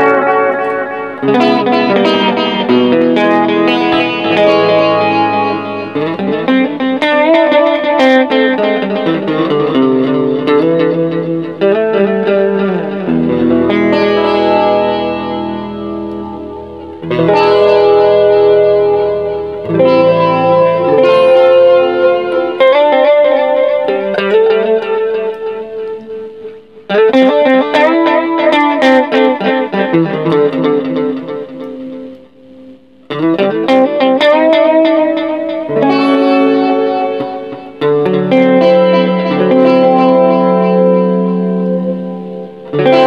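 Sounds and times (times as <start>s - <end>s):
electric guitar with chorus effect: 0.0s - 43.0s.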